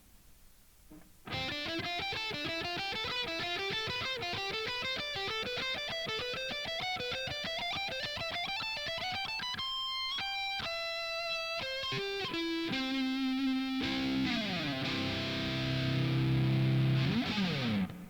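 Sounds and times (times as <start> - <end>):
guitar playing fast scale: 1.3 - 18.0.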